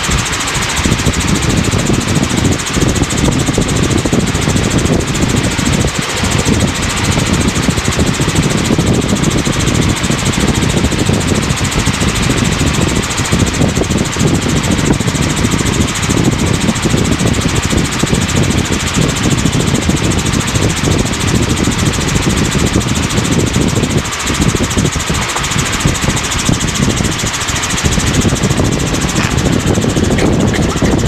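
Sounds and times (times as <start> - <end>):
helicopter rotor and engine noise: 0.0 - 31.0.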